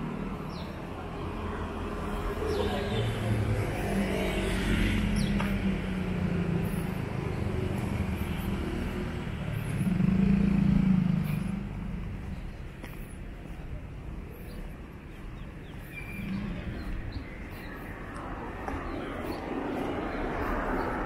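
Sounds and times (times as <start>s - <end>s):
cars driving past: 0.0s - 21.0s
motorcycles driving past: 0.0s - 21.0s.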